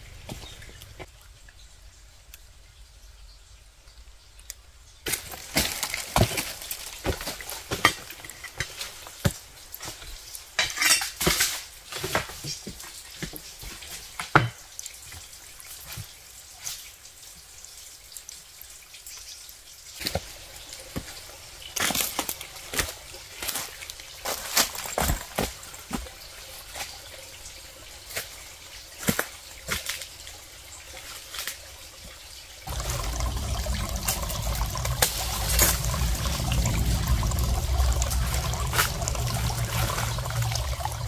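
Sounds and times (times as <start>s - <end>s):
water drips and splashes: 4.4s - 41.0s.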